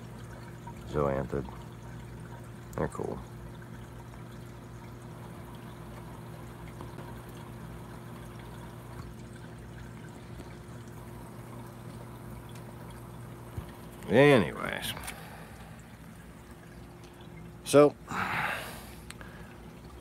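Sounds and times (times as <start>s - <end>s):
aquarium water trickling: 0.0s - 20.0s.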